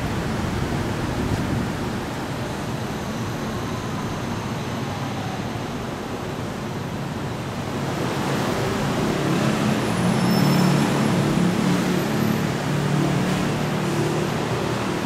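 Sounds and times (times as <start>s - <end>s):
monorail train rumbling past: 0.0s - 15.0s.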